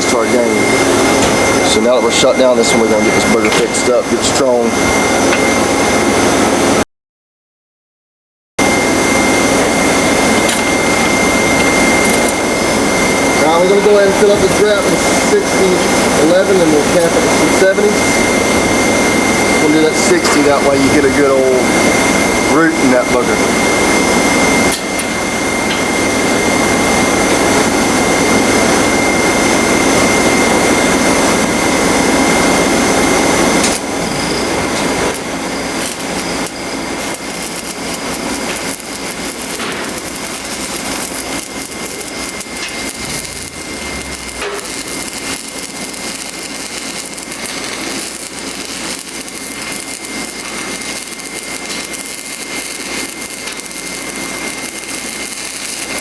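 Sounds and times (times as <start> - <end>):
welder engine running: 0.0 - 6.8, 8.6 - 56.0
welding arc crackling: 0.0 - 6.8, 8.6 - 56.0.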